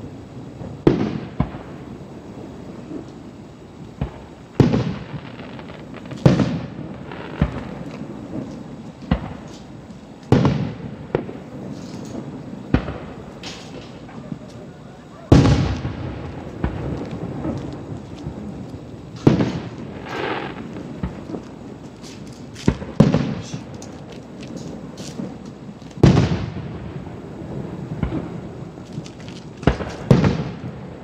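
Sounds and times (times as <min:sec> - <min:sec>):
faint firework crackling: 0:00.0 - 0:31.0
distant firework booms: 0:00.6 - 0:03.1, 0:04.0 - 0:09.5, 0:10.3 - 0:21.8, 0:22.6 - 0:23.8, 0:26.0 - 0:28.8, 0:29.6 - 0:31.0.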